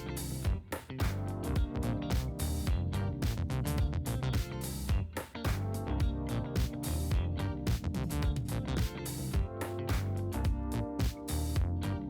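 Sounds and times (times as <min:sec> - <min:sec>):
upbeat music with drums and guitar: 0:00.0 - 0:12.0.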